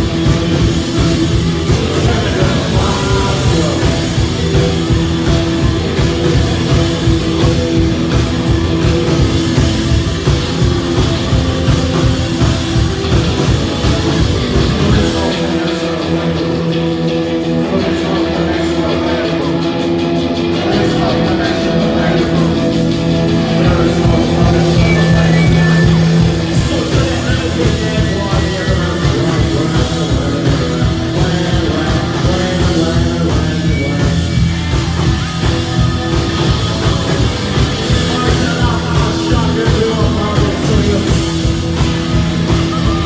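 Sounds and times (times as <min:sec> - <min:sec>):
fast driving drum beat: 0:00.0 - 0:43.0
live rock band playing: 0:00.0 - 0:43.0
man singing: 0:00.0 - 0:43.0.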